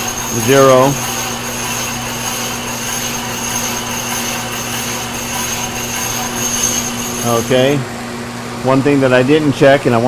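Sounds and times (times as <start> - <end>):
milling machine running: 0.0 - 9.0
shop vacuum sucking air: 0.0 - 9.6
phase converter humming: 0.0 - 10.0.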